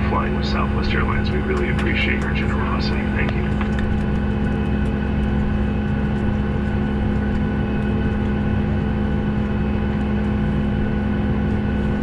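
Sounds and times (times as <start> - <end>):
faint steady tones: 0.0 - 11.2
aircraft cabin low hum: 0.0 - 12.0.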